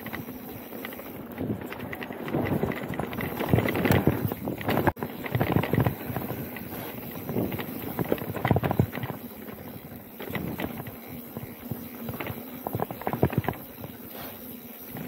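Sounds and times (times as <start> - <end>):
bike knocks and rattles: 0.0 - 15.0
tyres rolling on dirt: 0.0 - 15.0.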